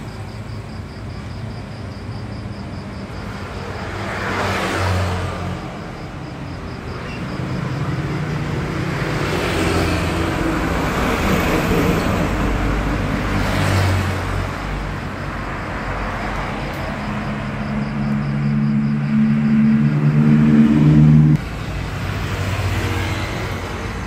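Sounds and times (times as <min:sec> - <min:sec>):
vehicles passing on street: 0:00.0 - 0:24.0.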